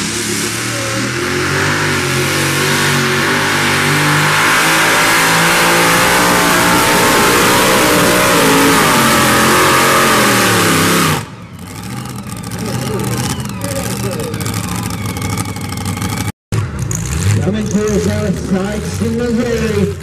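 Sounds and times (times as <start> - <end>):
supercharged engine running flat out: 0.0 - 19.6.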